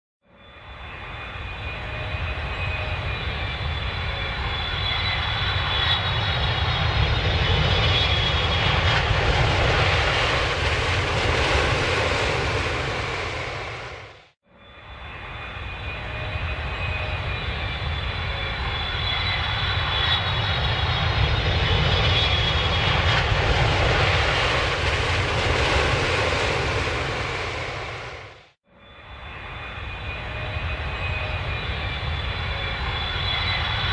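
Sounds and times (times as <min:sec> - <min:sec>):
airplane engine rumble and whine: 0:00.3 - 0:33.9.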